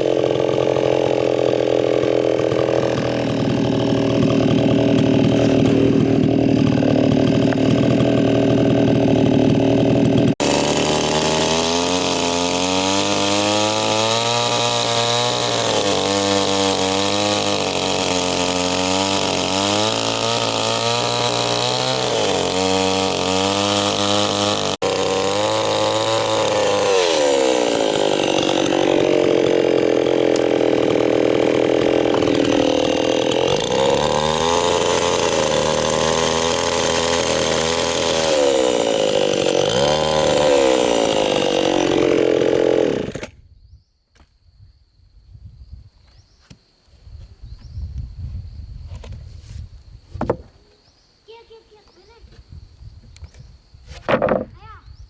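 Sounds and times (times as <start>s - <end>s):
chainsaw cutting wood: 0.0s - 43.4s, 53.9s - 54.8s.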